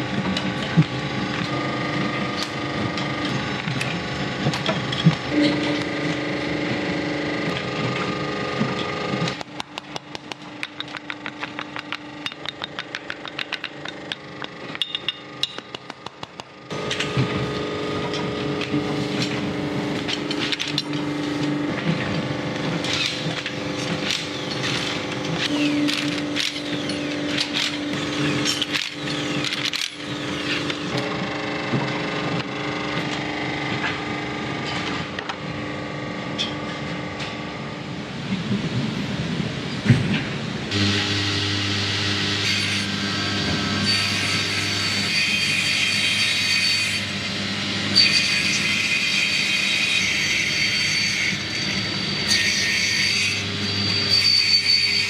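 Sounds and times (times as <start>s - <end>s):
steady machine noise with hum: 0.0s - 52.3s.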